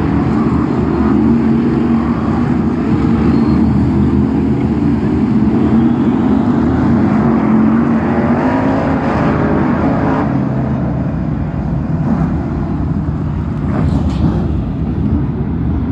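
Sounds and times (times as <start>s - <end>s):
race car engines roaring: 0.0s - 15.9s.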